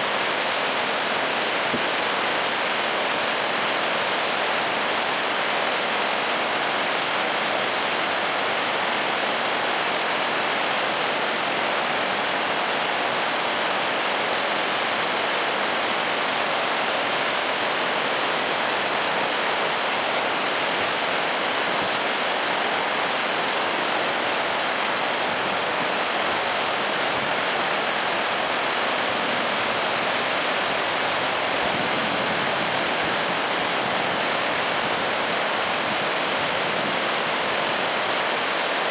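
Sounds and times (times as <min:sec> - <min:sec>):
river rushing through rapids: 0:00.0 - 0:38.9.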